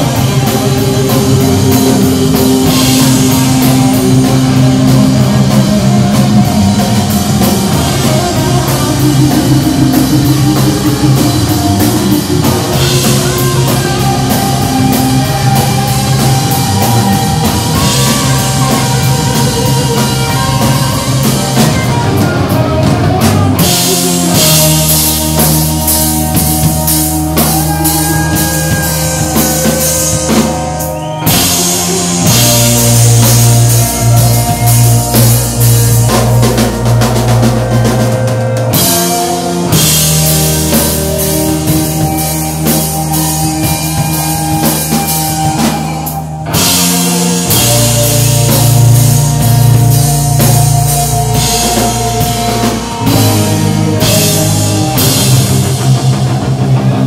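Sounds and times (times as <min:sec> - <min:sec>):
bass guitar: 0:00.0 - 0:57.0
drum kit with cymbals: 0:00.0 - 0:57.0
electric guitar: 0:00.0 - 0:57.0.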